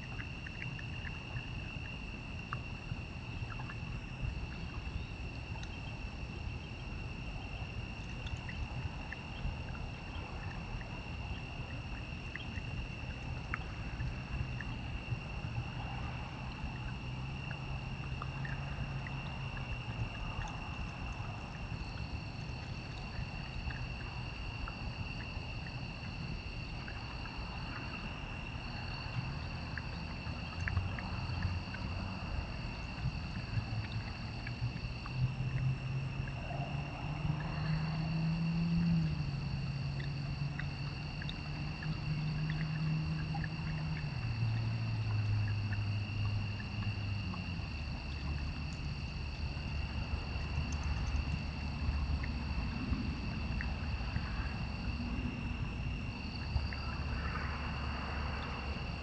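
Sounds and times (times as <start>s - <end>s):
faint ticks: 0.0s - 6.0s, 7.6s - 36.7s, 37.4s - 52.6s
crickets trilling: 0.0s - 59.0s.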